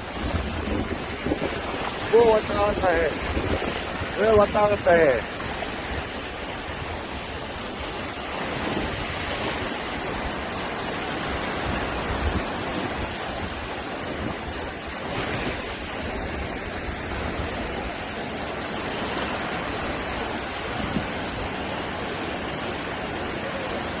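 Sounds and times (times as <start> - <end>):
wind gusting on microphone: 0.0 - 23.3
ocean surf washing on beach: 0.0 - 24.0.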